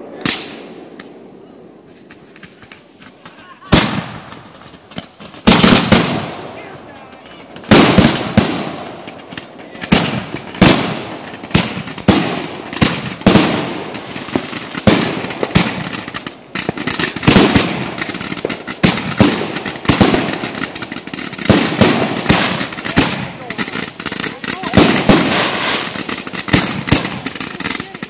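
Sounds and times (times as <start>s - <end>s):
fireworks bangs: 0.0s - 28.0s
fireworks crackling: 0.0s - 28.0s.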